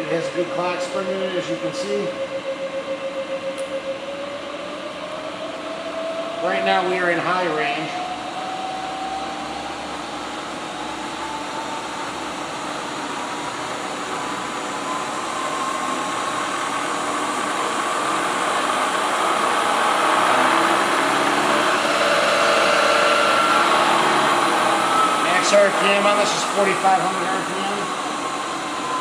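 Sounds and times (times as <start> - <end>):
milling machine spindle whine: 0.0 - 29.0.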